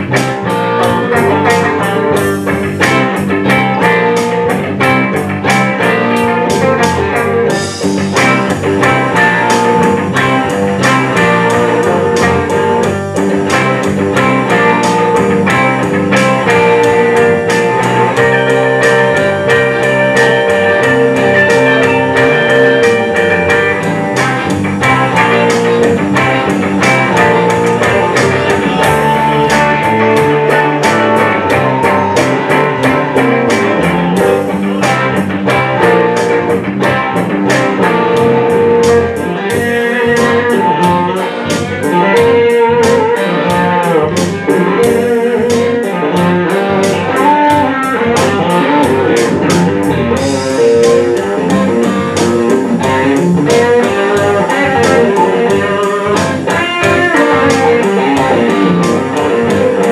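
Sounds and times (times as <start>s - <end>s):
blues-rock band playing: 0.0s - 59.9s
sustained lead guitar notes: 0.0s - 59.9s.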